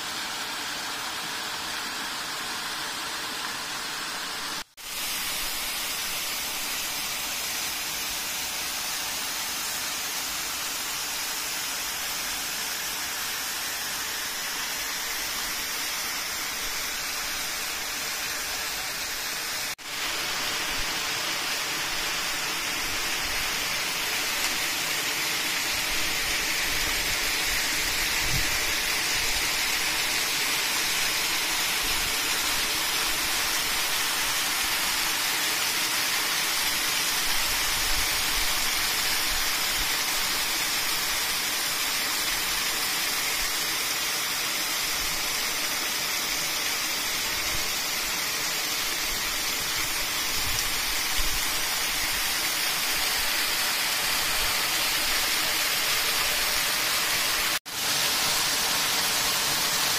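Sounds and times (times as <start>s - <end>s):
waterfall and stream over rocks: 0.0s - 59.9s.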